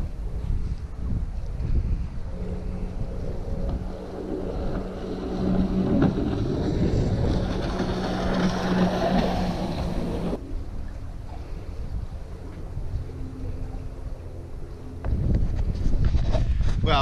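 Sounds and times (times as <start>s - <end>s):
jet ski engine running: 0.0s - 16.5s
wind buffeting microphone: 0.0s - 17.0s.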